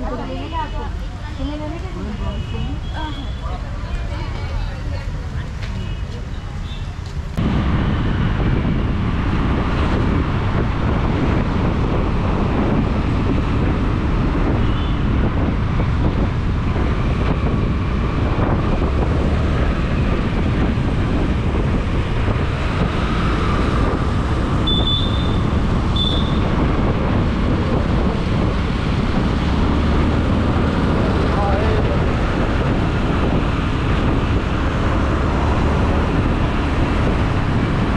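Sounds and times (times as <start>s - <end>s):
motorbike engine and road rumble: 0.0s - 37.9s
wind buffeting microphone: 7.0s - 37.9s.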